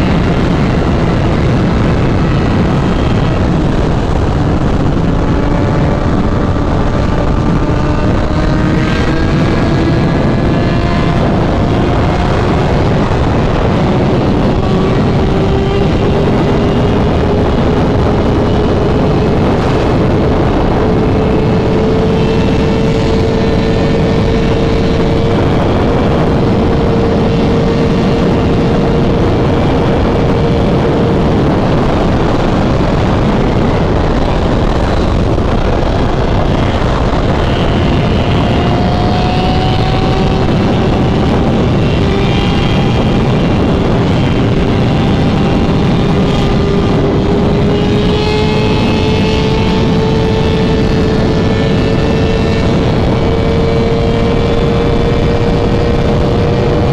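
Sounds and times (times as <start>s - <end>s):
motorcycle engine cruising: 0.0s - 56.9s
wind noise on microphone: 0.0s - 56.9s.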